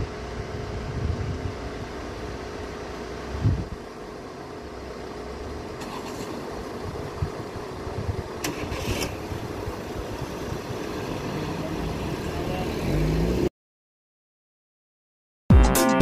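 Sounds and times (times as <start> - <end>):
car engines idling and pulling away: 0.0 - 13.5.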